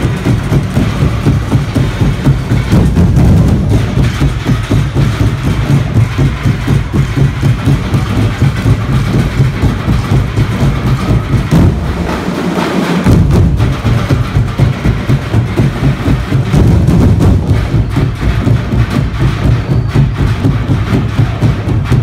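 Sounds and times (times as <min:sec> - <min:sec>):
drums and gongs playing fast beat: 0:00.0 - 0:22.0.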